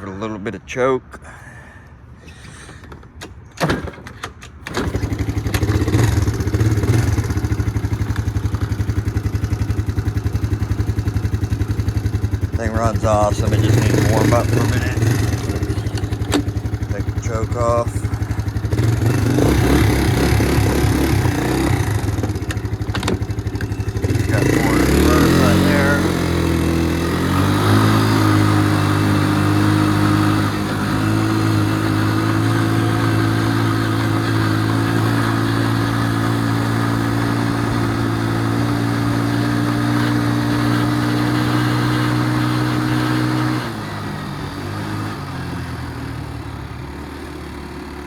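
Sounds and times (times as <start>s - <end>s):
atv engine idling: 4.7s - 48.0s.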